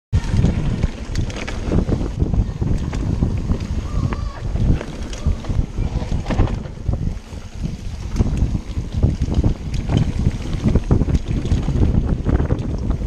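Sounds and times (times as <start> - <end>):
bike rattling and knocking: 0.2 - 13.0
tyres rumbling on dirt: 0.2 - 13.0
wind buffeting microphone: 0.2 - 13.0.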